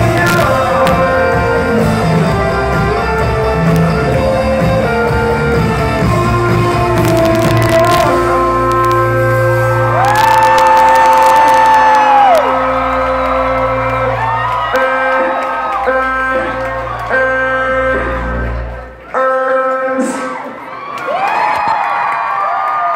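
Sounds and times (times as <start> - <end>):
live rock band playing: 0.0 - 18.7.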